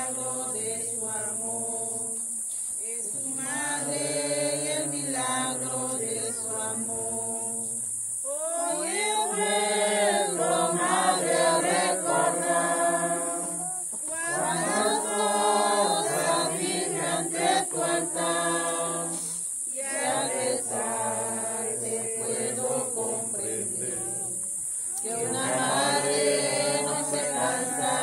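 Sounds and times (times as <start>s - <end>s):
group singing a hymn unaccompanied: 0.0s - 28.0s
high hiss: 0.0s - 28.0s.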